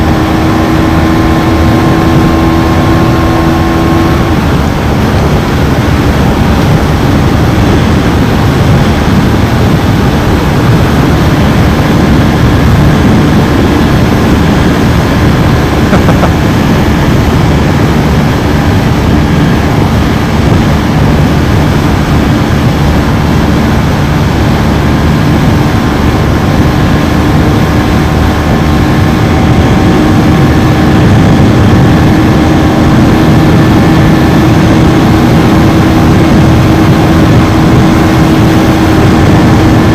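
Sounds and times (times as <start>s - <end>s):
motorcycle engine running hard: 0.0s - 39.9s
rush of wind noise: 0.0s - 39.9s.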